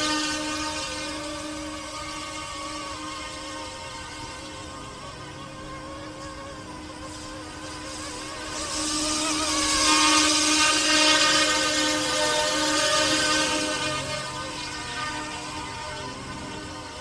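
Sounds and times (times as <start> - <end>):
model helicopter rotors whining: 0.0 - 17.0.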